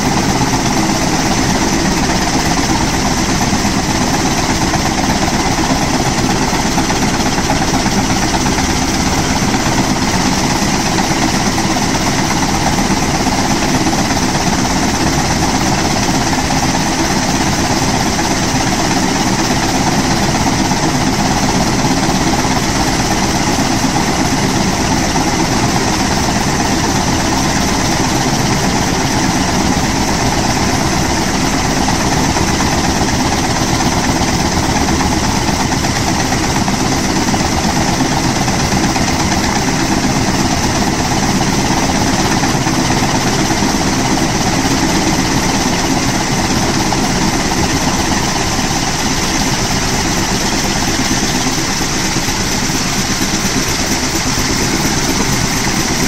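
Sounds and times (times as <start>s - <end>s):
helicopter engine and rotors: 0.0s - 56.0s.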